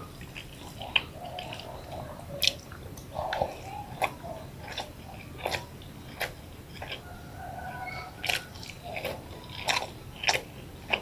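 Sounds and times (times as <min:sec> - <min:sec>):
person chewing soft food: 0:00.0 - 0:11.0.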